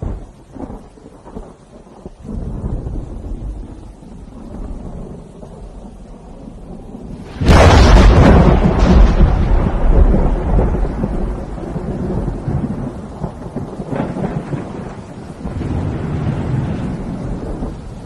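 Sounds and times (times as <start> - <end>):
thunder rumbling: 0.0 - 18.0
lightning crack: 2.2 - 18.0.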